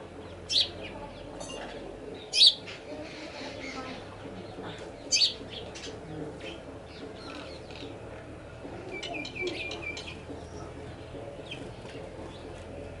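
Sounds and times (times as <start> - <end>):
low background murmur: 0.0 - 13.0
sparrows chirping: 0.0 - 13.0.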